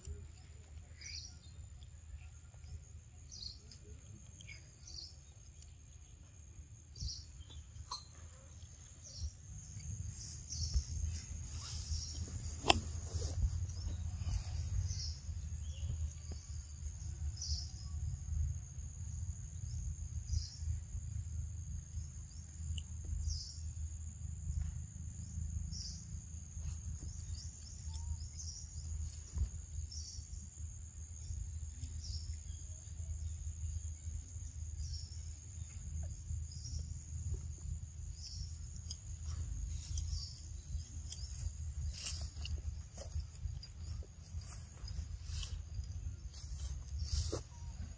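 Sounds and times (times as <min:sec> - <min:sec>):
high-pitched insect chorus: 0:00.0 - 0:47.9
short insect chirps: 0:00.0 - 0:47.9.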